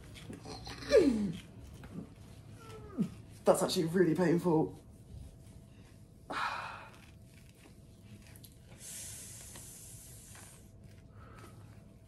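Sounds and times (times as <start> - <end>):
tape peeling off skin: 0.0 - 3.4, 5.0 - 12.0.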